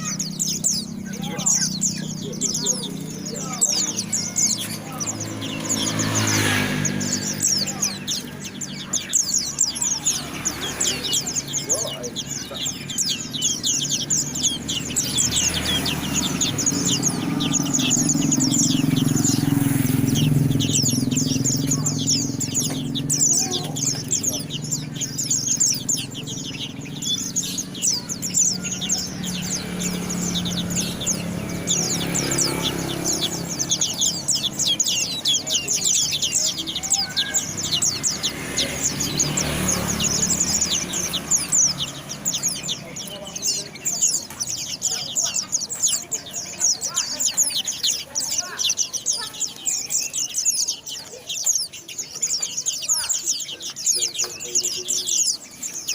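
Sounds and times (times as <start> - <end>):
bird twittering high chirps: 0.0 - 55.9.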